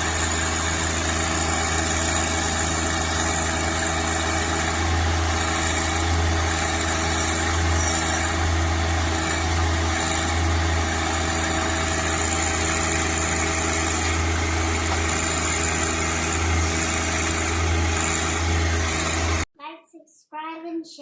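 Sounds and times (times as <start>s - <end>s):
tractor engine humming: 0.0s - 19.4s.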